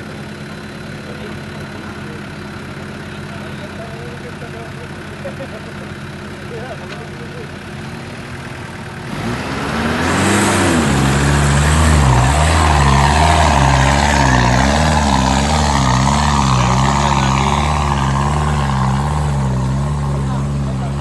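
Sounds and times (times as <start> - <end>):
engine revving under hard throttle: 0.0 - 21.0.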